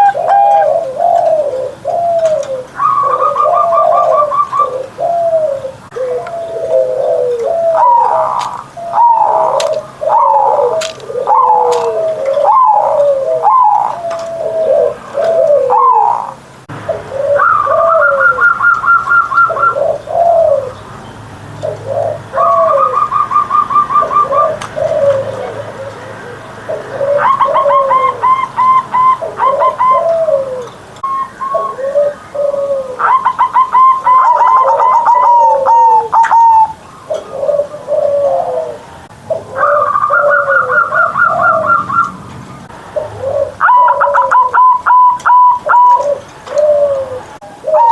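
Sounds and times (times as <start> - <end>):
dove cooing: 0.0 - 20.8, 21.6 - 47.9.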